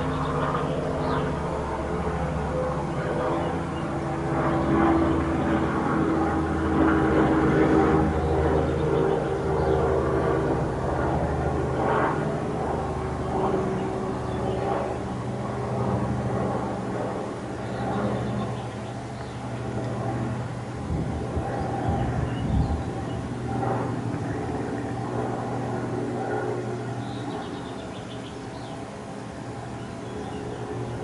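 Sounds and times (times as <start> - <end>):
aircraft engine drone: 0.0 - 31.0.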